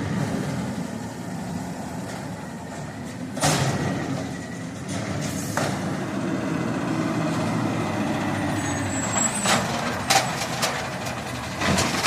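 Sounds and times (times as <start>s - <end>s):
garbage truck engine running: 0.0s - 12.0s.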